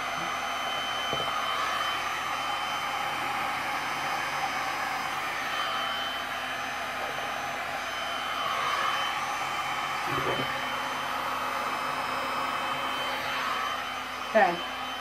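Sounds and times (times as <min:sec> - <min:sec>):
heat gun blowing with whine: 0:00.0 - 0:15.0.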